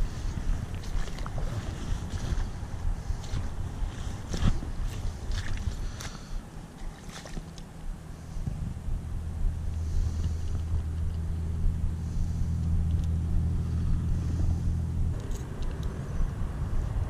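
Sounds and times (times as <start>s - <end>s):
low engine-like drone: 0.0s - 17.0s.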